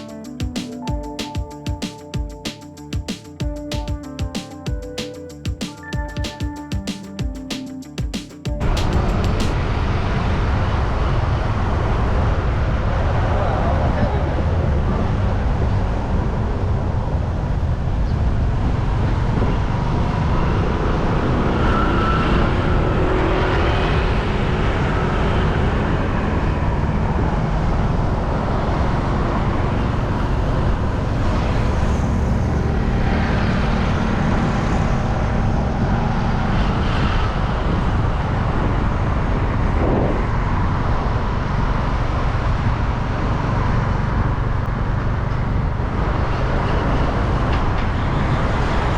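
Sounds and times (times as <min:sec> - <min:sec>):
low traffic rumble: 0:07.8 - 0:48.9
vehicles passing: 0:08.6 - 0:48.9.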